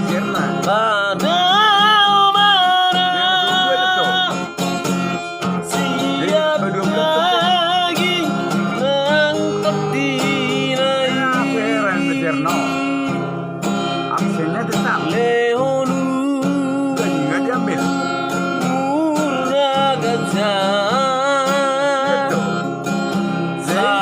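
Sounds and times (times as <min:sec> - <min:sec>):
acoustic guitar: 0:00.0 - 0:24.0
person singing with vibrato: 0:00.0 - 0:24.0.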